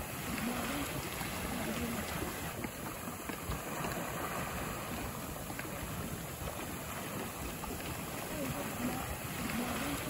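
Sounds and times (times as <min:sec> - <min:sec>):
hot spring bubbling and rushing: 0:00.0 - 0:10.0.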